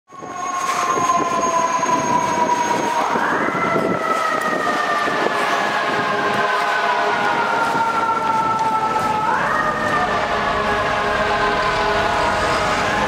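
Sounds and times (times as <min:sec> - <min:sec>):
fire engine siren winding: 0:00.1 - 0:10.8
street noise: 0:00.1 - 0:13.0.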